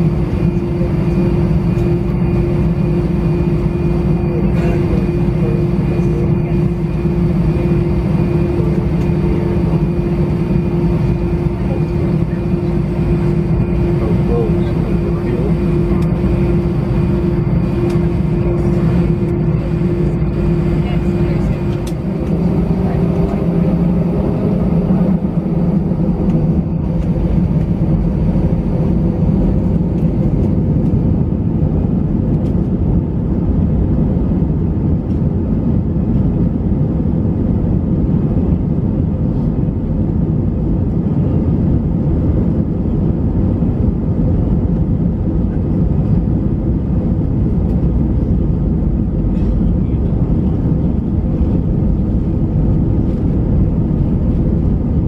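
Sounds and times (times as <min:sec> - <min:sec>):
airliner engines and wheels rumbling: 0:00.0 - 0:55.0.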